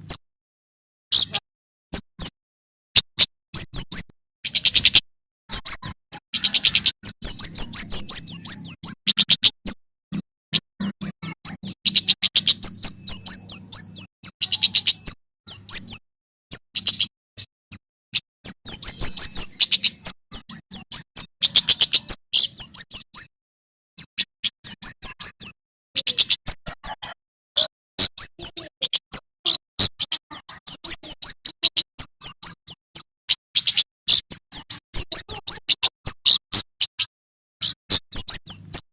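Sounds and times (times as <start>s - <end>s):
bird chirping: 0.0s - 0.2s, 1.1s - 2.4s, 3.0s - 23.3s, 24.0s - 38.9s.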